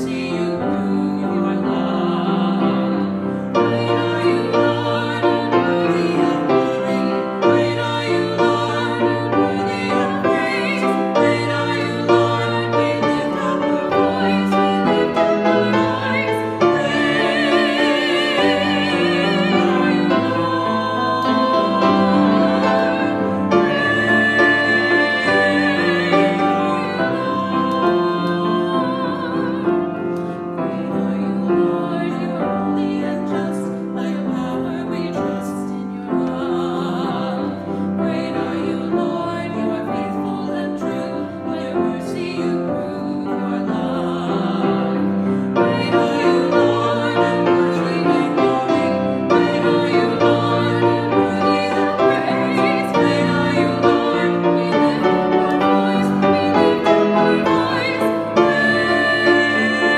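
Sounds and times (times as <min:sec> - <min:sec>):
piano accompaniment: 0:00.0 - 0:59.9
woman singing classical style: 0:00.0 - 0:59.9.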